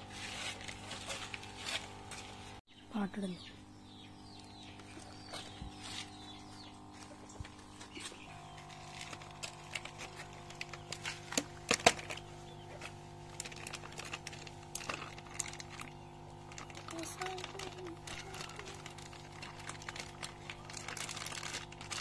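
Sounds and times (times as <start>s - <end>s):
plastic bag rustling: 0.0s - 2.6s, 5.4s - 22.0s
steady hum: 0.0s - 22.0s.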